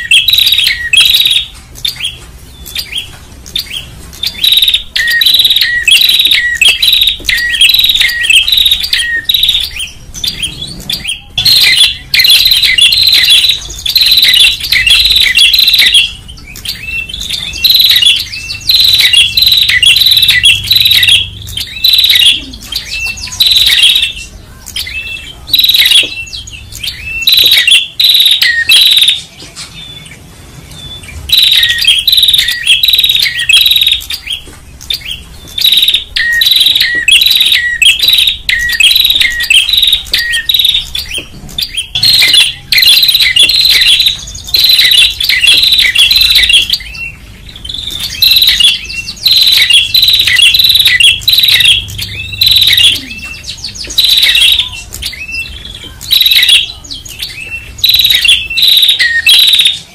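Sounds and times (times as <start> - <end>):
bird chirping loudly: 0.0 - 59.9.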